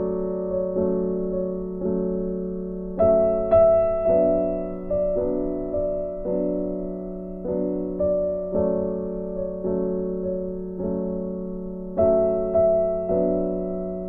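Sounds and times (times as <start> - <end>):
slow gentle piano music: 0.0 - 14.0.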